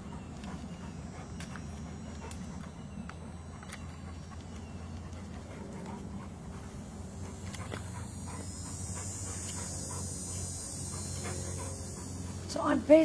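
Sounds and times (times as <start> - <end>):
dog sounds: 0.0 - 12.9
low background hum: 0.0 - 13.0.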